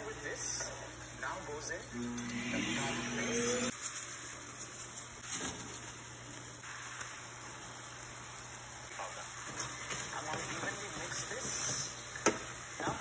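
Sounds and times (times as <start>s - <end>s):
gravy simmering hiss: 0.0s - 13.0s.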